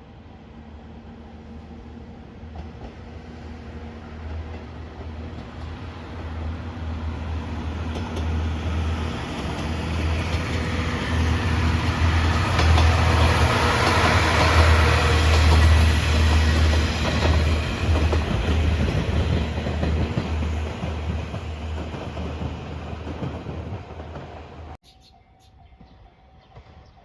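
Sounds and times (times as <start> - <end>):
train approaching on rails: 0.0 - 27.0.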